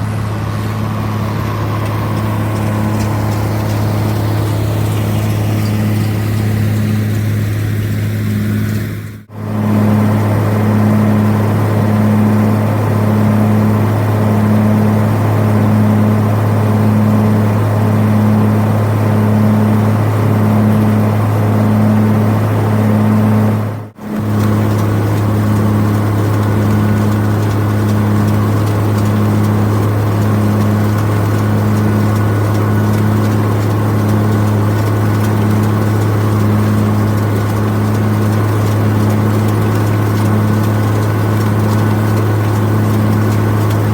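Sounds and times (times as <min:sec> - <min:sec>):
tractor engine running under load: 0:00.0 - 0:43.9.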